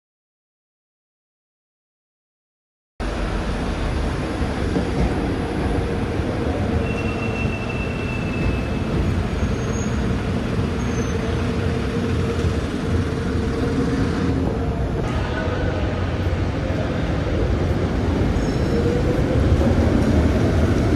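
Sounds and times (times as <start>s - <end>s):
rail car rumbling on track: 3.0s - 20.9s.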